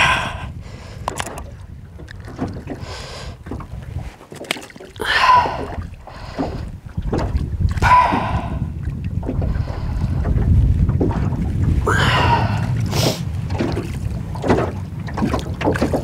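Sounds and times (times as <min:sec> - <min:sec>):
water slapping against metal boat: 0:00.0 - 0:16.0
wind rumble on microphone: 0:00.0 - 0:16.0.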